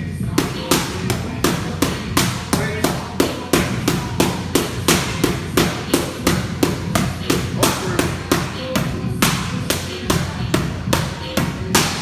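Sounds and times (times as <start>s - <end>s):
boxing gloves smacking mitts: 0.3s - 12.0s.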